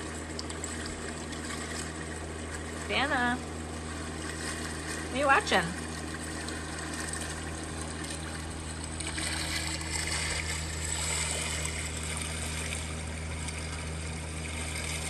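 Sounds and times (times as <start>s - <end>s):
low steady hum: 0.0s - 15.0s
water trickling and bubbling: 0.0s - 15.0s.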